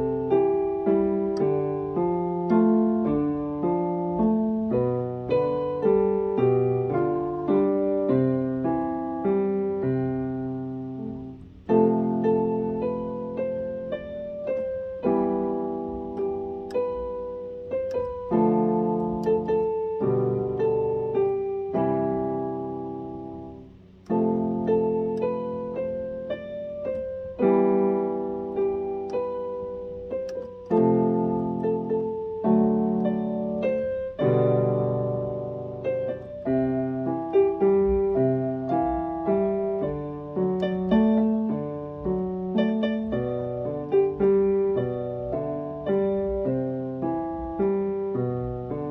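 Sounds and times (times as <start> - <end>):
piano-toned keyboard melody: 0.0 - 48.9.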